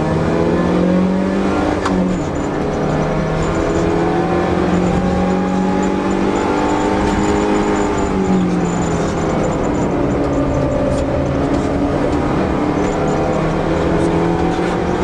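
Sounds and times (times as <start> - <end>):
rally car engine running hard: 0.0 - 15.0.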